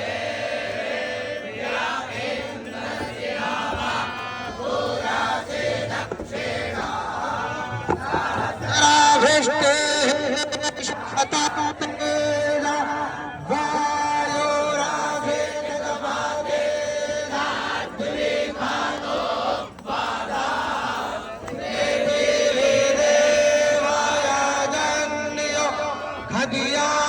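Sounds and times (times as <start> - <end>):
group chanting in unison: 0.0 - 27.0.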